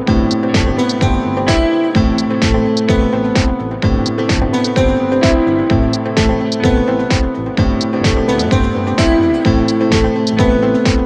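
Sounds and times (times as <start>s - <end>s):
background music with steady beat: 0.0s - 11.0s
plucked guitar notes: 0.0s - 11.0s.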